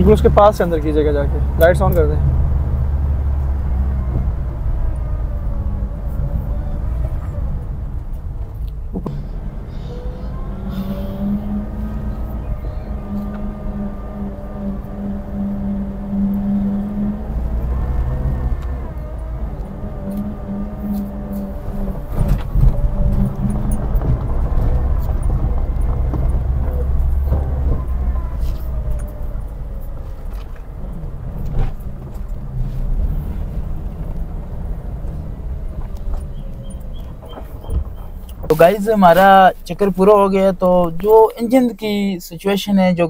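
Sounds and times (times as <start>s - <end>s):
van engine and tyres rumbling: 0.0s - 43.0s.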